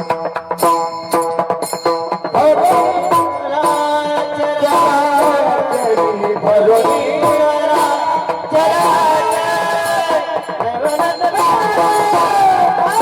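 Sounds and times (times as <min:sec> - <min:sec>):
drum and percussion: 0:00.0 - 0:13.0
person singing: 0:02.3 - 0:13.0.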